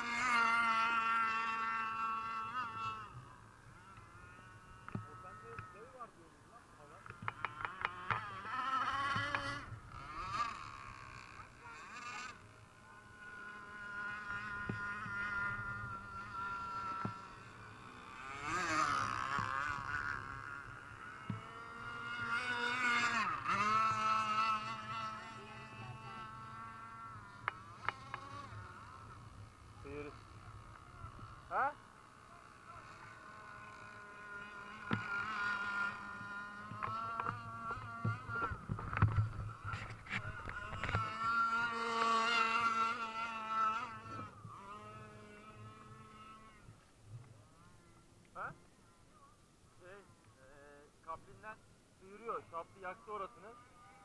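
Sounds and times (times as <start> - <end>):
model boat engine whining: 0.0 - 54.0.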